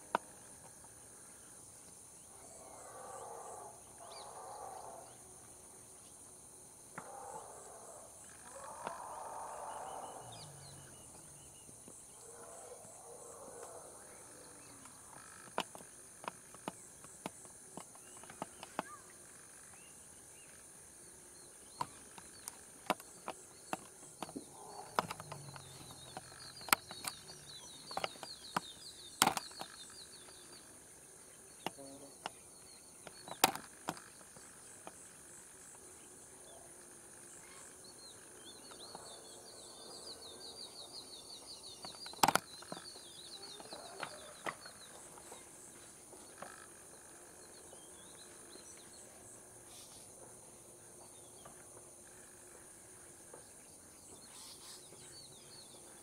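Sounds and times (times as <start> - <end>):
insect chirping trills: 0.0 - 56.0
insect drone: 0.0 - 56.0.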